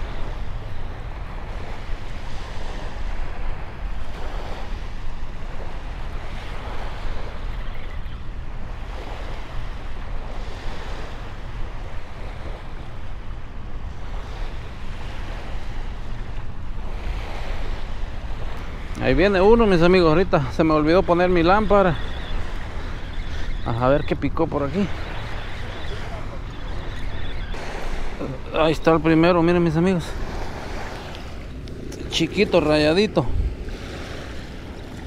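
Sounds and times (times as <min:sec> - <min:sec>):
small waves washing onto shore: 0:00.0 - 0:35.0
wind rumbling on microphone: 0:00.0 - 0:35.0.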